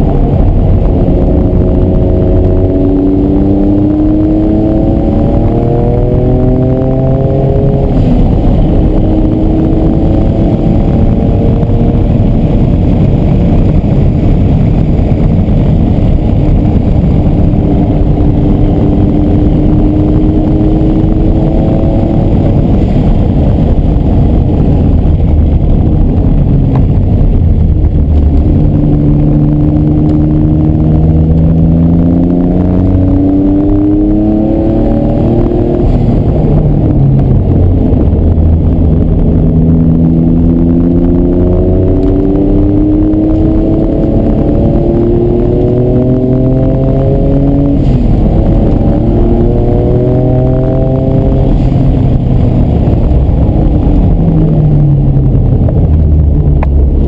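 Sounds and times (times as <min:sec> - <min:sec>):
sports car engine revving: 0:00.0 - 0:57.0.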